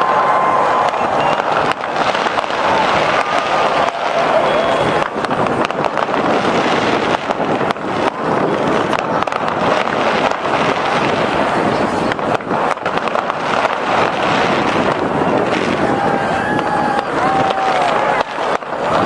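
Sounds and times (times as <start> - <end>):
fireworks cracking and banging: 0.0 - 19.0
steady wash of noise: 0.0 - 19.0.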